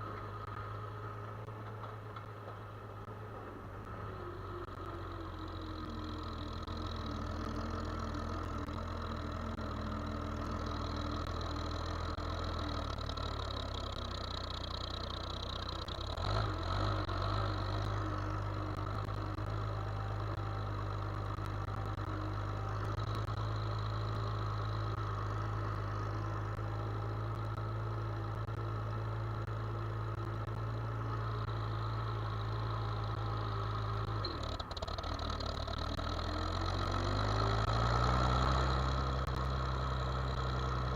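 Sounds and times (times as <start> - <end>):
farm machinery engine running: 0.0 - 40.9.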